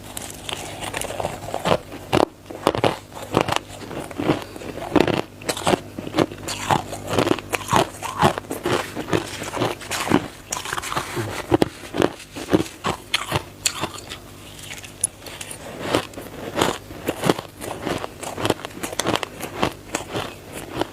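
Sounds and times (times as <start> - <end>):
person chewing crunchy ice: 0.0 - 20.9.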